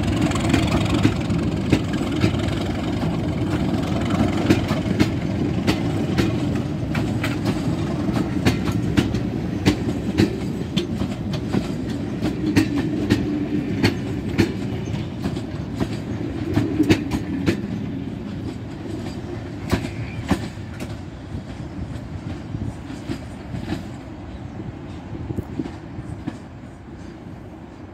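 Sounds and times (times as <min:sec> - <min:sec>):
train rumble: 0:00.0 - 0:27.9
train wheels clicking over rail joints: 0:00.0 - 0:27.9.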